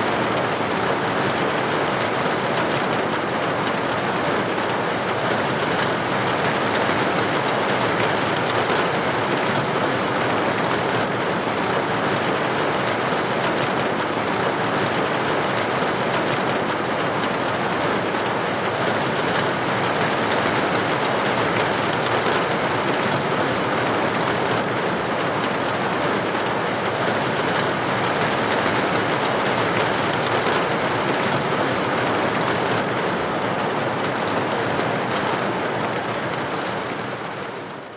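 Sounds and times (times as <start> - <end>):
rain pattering on a window: 0.0 - 37.9.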